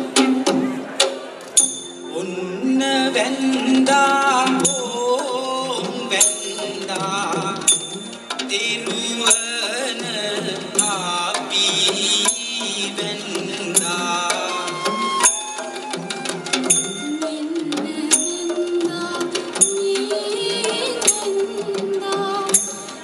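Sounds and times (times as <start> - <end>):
drumming: 0.0 - 2.0, 3.0 - 23.0
sharp percussion strike: 0.0 - 2.2, 4.4 - 17.4, 18.1 - 21.6.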